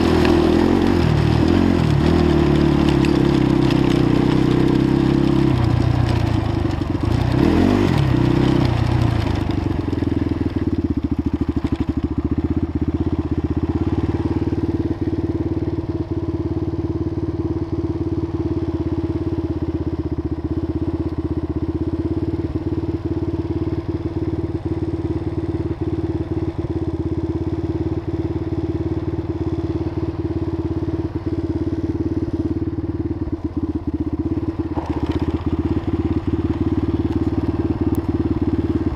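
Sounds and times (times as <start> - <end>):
atv engine idling: 0.0 - 38.9.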